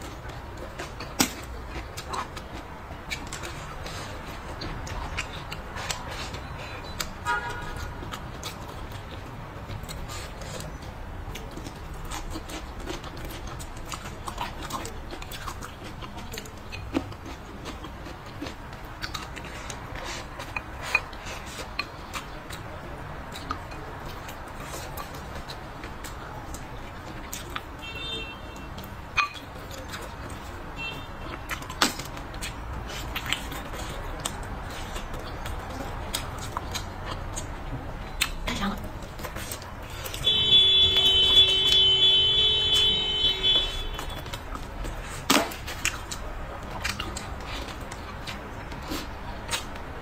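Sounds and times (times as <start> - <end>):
close chewing and mouth sounds: 0.0 - 50.0.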